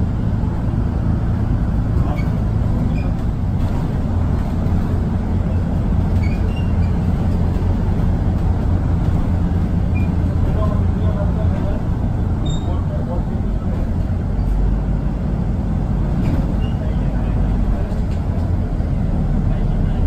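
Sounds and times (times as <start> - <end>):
low rumble of engines and machinery: 0.0 - 20.0.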